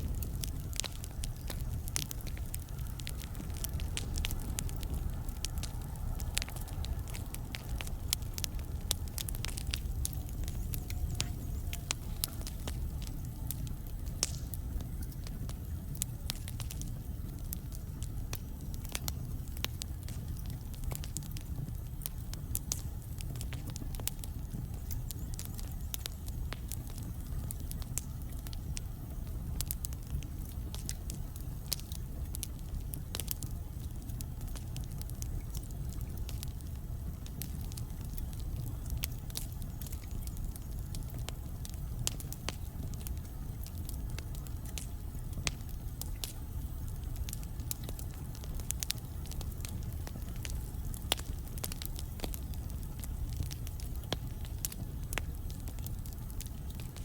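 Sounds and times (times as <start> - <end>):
burning logs crackling and popping: 0.0 - 57.0
fire flames rumbling: 0.0 - 57.0.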